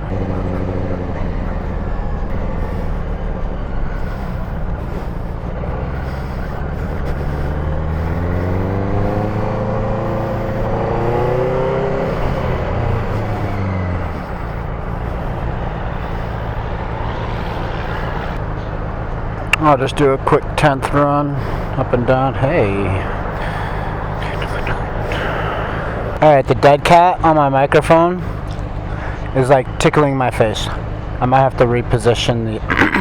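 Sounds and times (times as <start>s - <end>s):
motorcycle engine revving: 0.0s - 29.8s, 30.4s - 33.0s.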